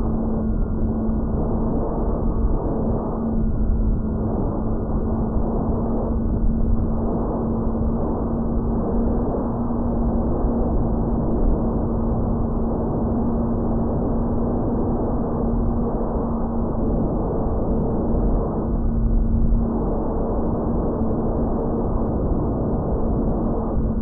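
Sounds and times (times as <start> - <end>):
wind rush on microphone: 0.0 - 24.0.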